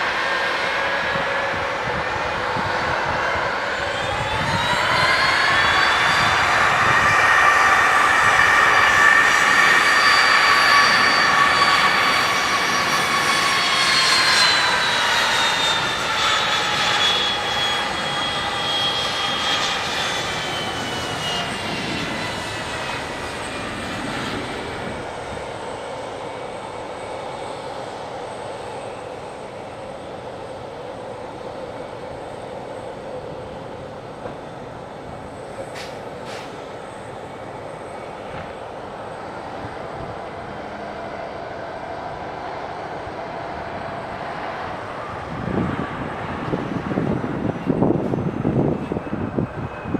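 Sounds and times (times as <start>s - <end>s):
jet airliner engines whining: 0.0s - 49.9s.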